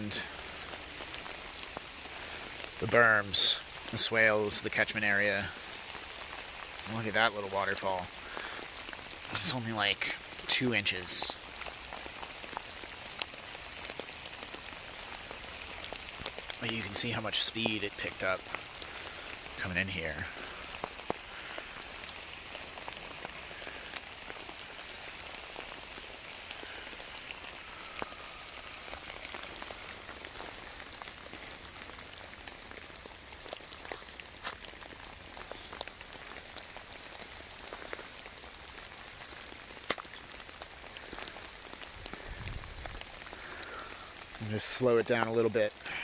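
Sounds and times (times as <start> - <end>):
rain falling on leaves: 0.0 - 46.0.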